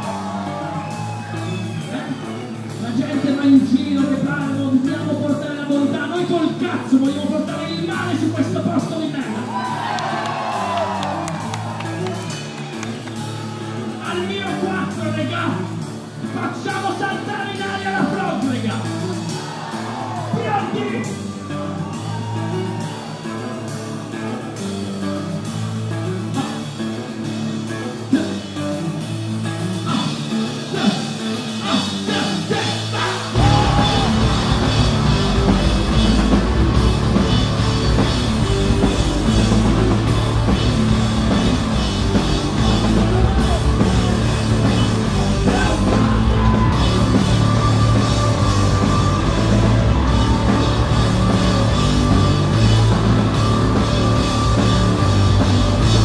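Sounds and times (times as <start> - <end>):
live rock band: 0.0 - 56.0.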